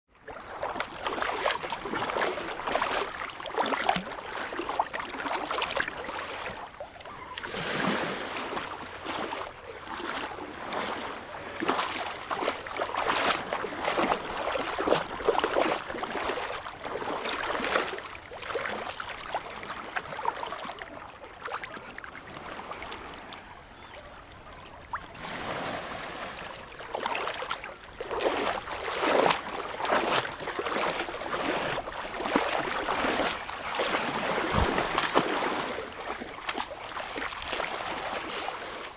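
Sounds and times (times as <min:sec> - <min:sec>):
swimming splashes in water: 0:00.2 - 0:38.9.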